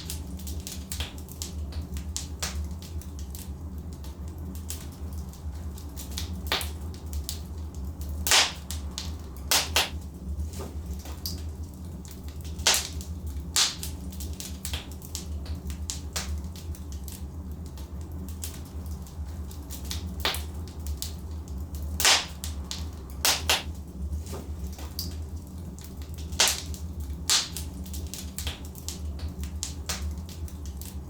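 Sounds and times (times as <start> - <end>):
log fire crackling: 0.0 - 31.0.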